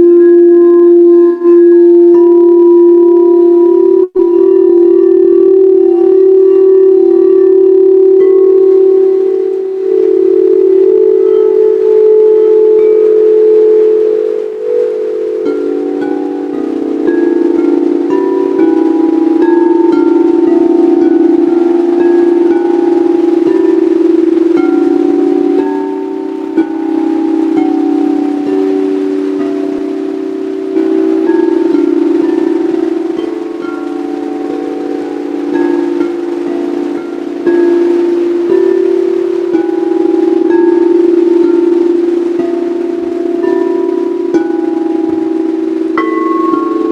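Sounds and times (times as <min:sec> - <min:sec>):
high chime-like notes: 0:00.0 - 0:46.9
singing bowls ringing: 0:00.0 - 0:46.9.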